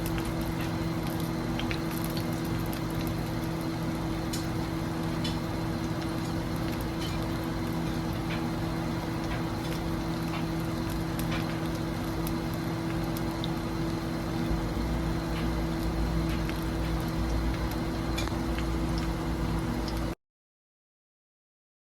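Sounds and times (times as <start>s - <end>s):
food sizzling in a frying pan: 0.0s - 20.2s.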